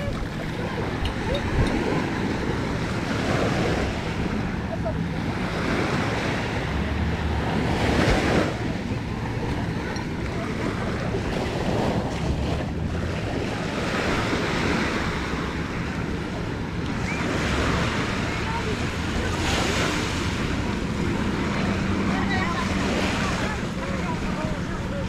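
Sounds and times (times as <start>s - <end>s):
small waves on sandy shore: 0.0s - 25.0s.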